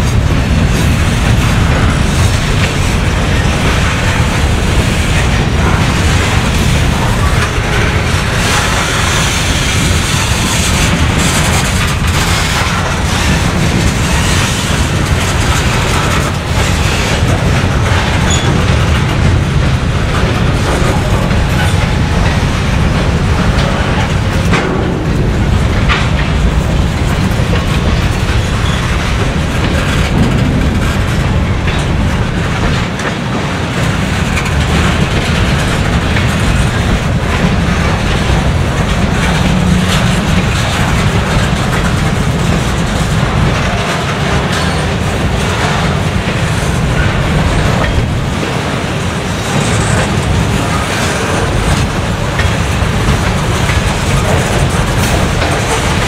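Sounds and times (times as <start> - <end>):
train wheels rumbling on rails: 0.0 - 56.0
wheels clickety-clack: 0.0 - 56.0.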